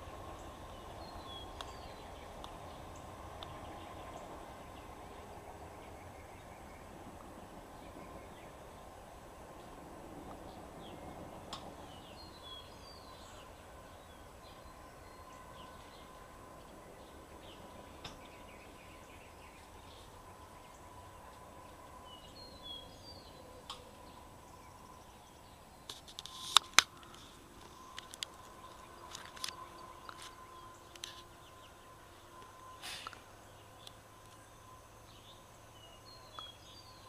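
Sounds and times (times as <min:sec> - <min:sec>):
bird chirps: 0:00.0 - 0:06.9, 0:11.8 - 0:26.4, 0:27.1 - 0:37.0.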